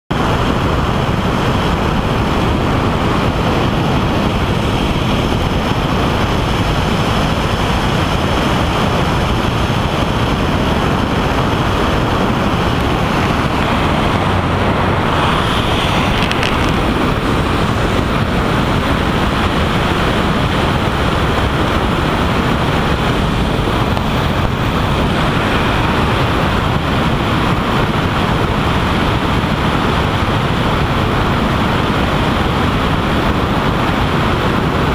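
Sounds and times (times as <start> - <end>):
helicopter rotor and engine: 0.1 - 34.9
wind rushing over microphone: 0.1 - 34.9.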